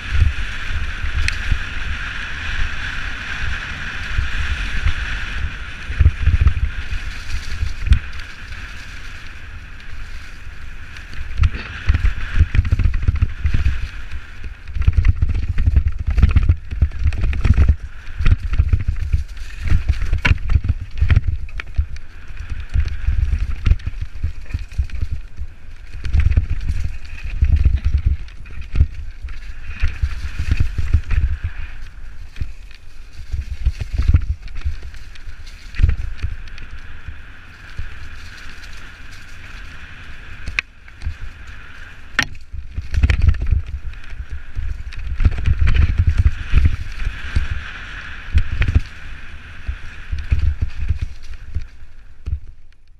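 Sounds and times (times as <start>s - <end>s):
bike knocking and rattling: 0.0s - 52.9s
bike tyre noise on dirt: 0.0s - 52.9s
wind rumble on microphone: 0.0s - 52.9s.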